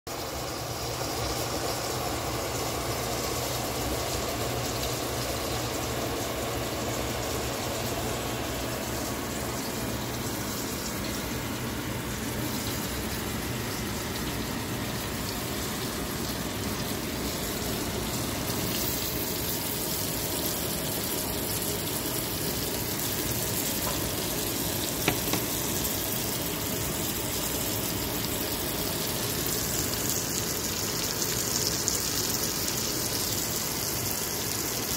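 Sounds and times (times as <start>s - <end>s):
food sizzling in a frying pan: 0.1s - 34.9s.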